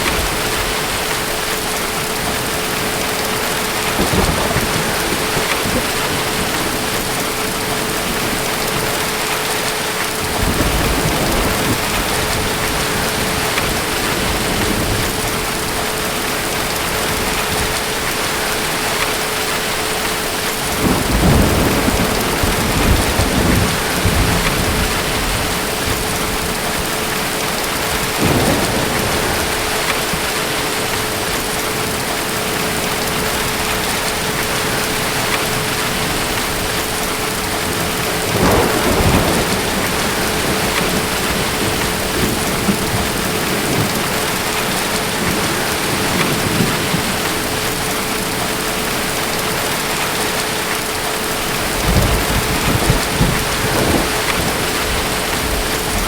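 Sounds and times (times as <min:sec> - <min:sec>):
distant thunder rumbling: 0:00.0 - 0:56.0
heavy rain: 0:00.0 - 0:56.0.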